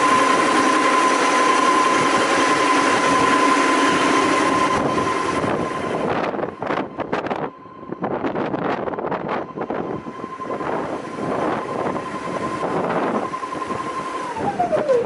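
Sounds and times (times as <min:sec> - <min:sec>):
sanding machine whine: 0:00.0 - 0:15.0
wind buffeting microphone: 0:00.0 - 0:15.0.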